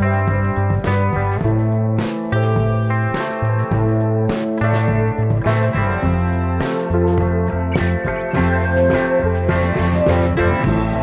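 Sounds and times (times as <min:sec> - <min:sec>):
guitar instrumental music: 0:00.0 - 0:11.0
steady bass line: 0:00.0 - 0:11.0.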